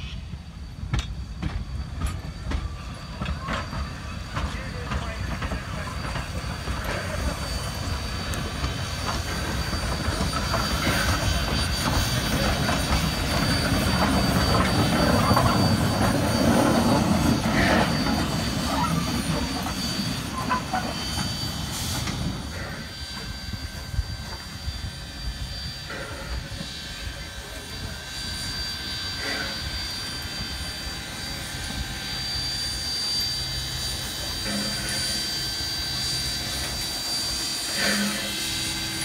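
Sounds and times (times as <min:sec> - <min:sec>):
steam locomotive rumbling past: 0:00.0 - 0:39.0.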